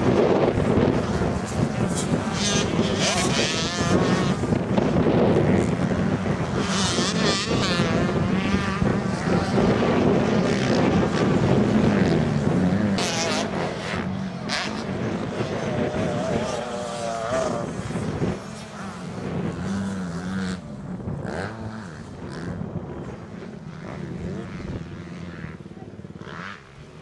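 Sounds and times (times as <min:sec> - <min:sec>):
motocross engines revving: 0:00.0 - 0:27.0.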